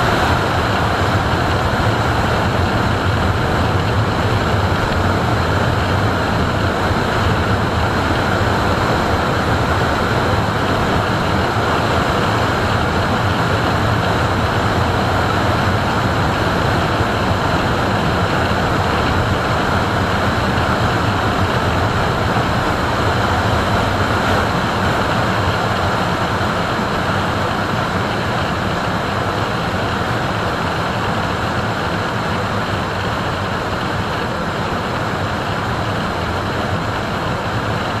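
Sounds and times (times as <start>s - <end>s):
wind and road noise: 0.0s - 38.0s.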